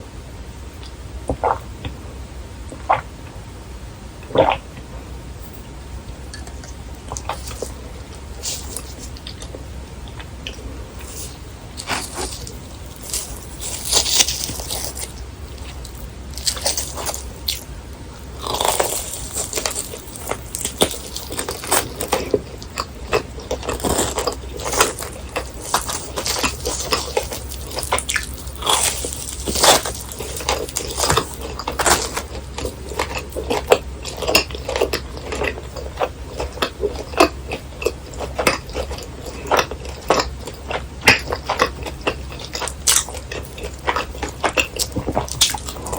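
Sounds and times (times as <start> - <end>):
faint low hum: 0.0 - 45.9
crunching crispy snacks: 7.1 - 45.9.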